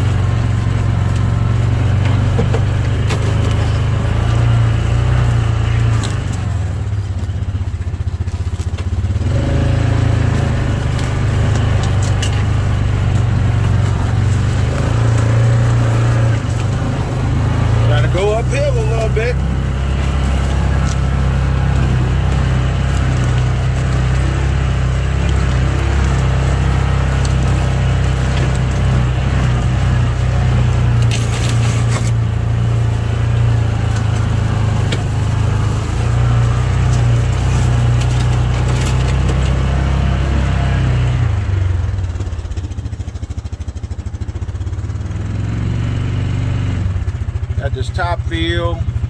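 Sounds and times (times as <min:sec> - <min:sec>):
branches scraping against vehicle: 0:00.0 - 0:49.0
vehicle engine running: 0:00.0 - 0:49.0.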